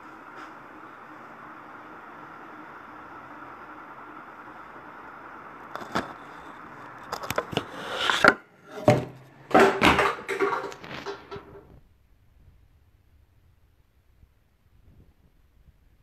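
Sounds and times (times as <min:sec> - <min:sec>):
steady room hum: 0:00.0 - 0:16.0.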